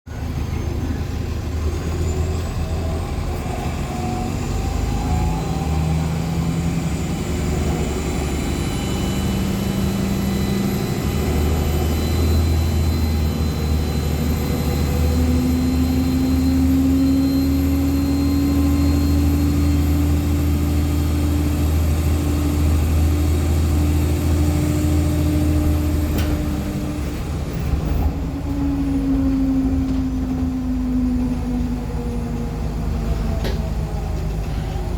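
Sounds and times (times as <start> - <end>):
bus diesel engine drone: 0.1 - 34.9.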